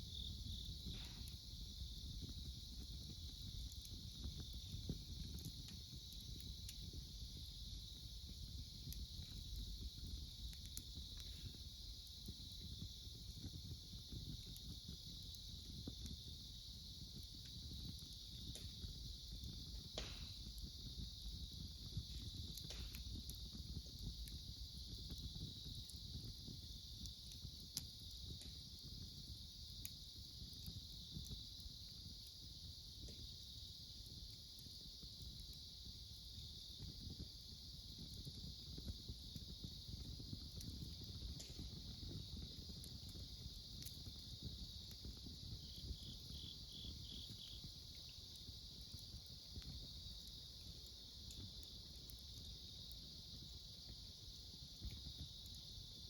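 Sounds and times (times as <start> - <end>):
insects chirring: 0.0 - 56.0
wood fire crackling and popping: 0.0 - 56.0.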